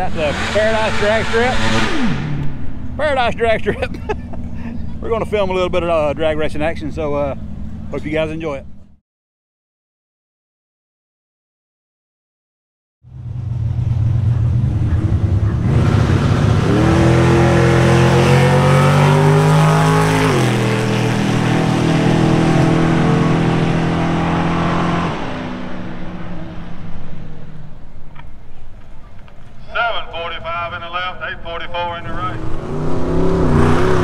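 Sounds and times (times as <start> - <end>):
racing car engine at full throttle: 0.0 - 9.0, 13.1 - 28.3, 29.8 - 34.0.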